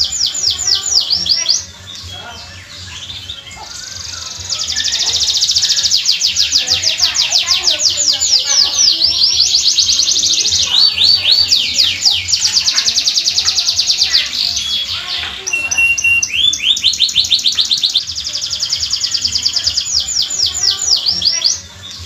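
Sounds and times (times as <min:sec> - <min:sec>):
canary trilling song: 0:00.0 - 0:22.0.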